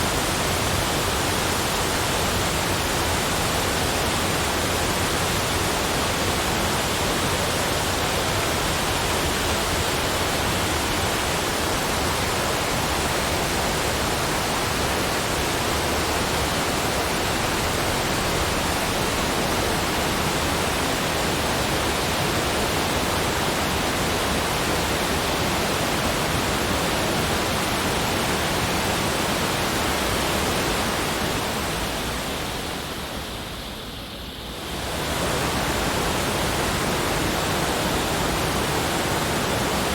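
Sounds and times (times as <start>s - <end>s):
rushing falling water: 0.0s - 39.9s.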